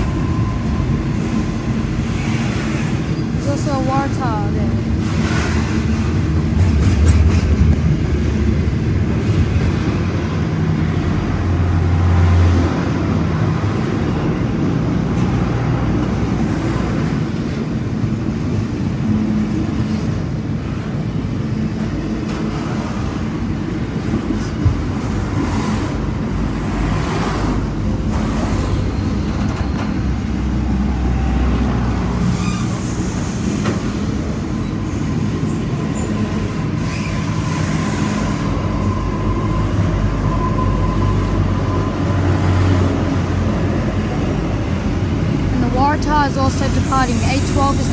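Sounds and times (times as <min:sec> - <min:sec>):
diesel locomotive engine drone: 0:00.0 - 0:47.9
train wheels rumbling on rail: 0:00.0 - 0:47.9.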